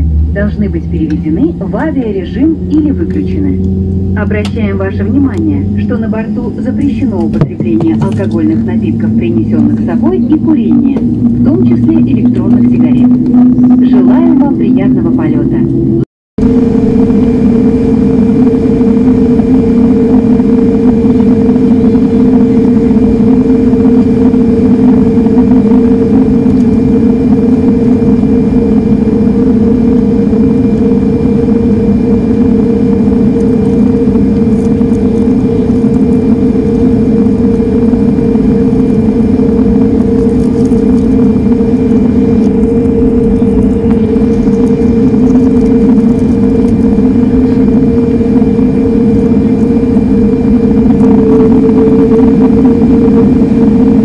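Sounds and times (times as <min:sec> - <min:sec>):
jet engine drone in cabin: 0:00.0 - 0:54.0.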